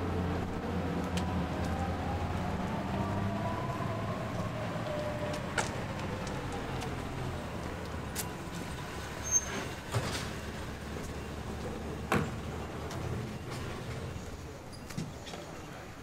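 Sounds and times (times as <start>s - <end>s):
vehicle passing: 0.0s - 14.0s
low traffic rumble: 0.0s - 16.0s.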